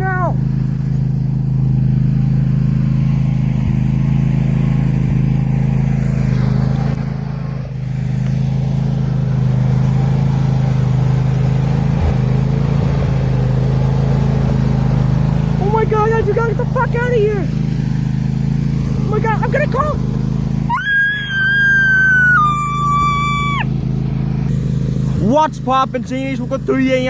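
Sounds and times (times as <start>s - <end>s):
low engine drone: 0.0s - 27.0s.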